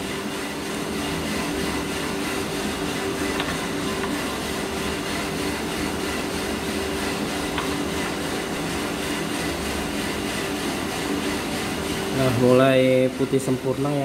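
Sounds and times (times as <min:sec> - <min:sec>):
motor and fan humming: 0:00.0 - 0:14.0.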